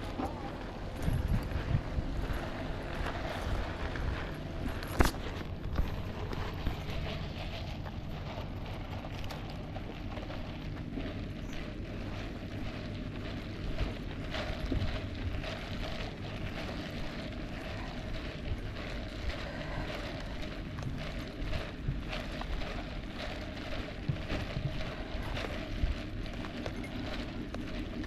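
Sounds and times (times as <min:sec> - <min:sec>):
footsteps on pavement: 0:00.0 - 0:28.0
wind rumble on microphone: 0:00.0 - 0:28.0.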